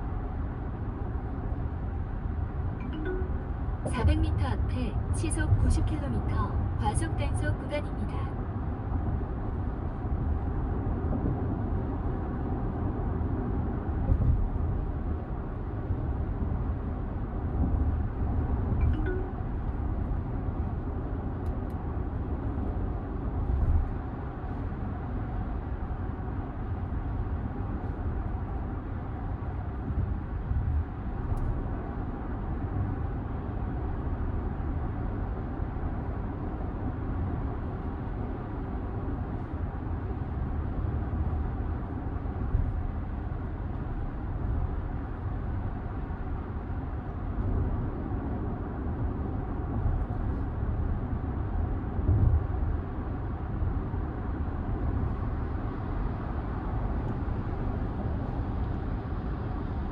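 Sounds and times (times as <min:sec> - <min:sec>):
road and tyre rumble in car: 0:00.0 - 0:59.9.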